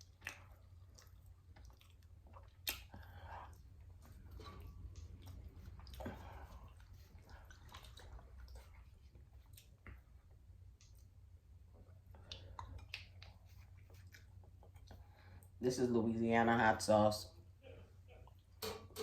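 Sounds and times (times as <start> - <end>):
person chewing food: 0.0 - 15.6
low steady hum: 0.0 - 19.0.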